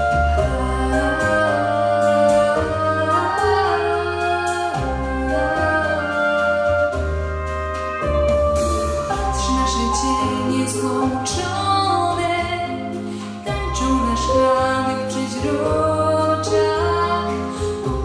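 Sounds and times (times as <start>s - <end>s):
woman singing into microphone: 0.0s - 7.0s, 9.1s - 18.0s
instrumental backing track: 0.0s - 18.0s.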